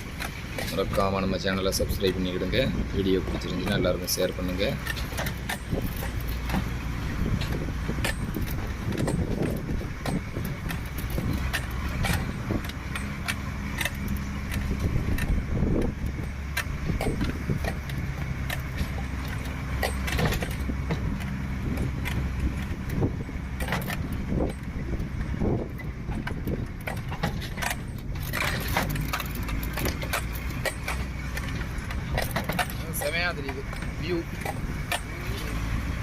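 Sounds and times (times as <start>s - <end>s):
bus engine running: 0.0s - 36.0s
rattles and knocks of loose fittings: 0.0s - 36.0s.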